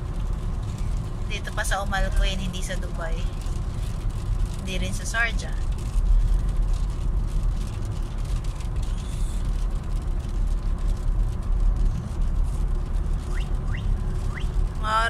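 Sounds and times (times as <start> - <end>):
car road noise from inside: 0.0 - 15.0.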